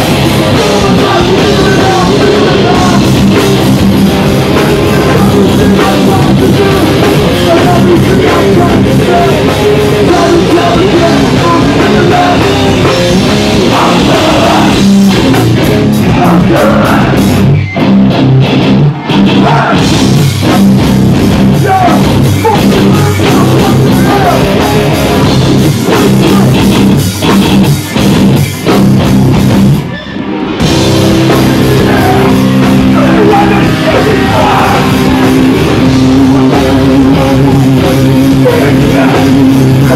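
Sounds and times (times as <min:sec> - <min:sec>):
hardcore band playing live: 0:00.0 - 0:39.9.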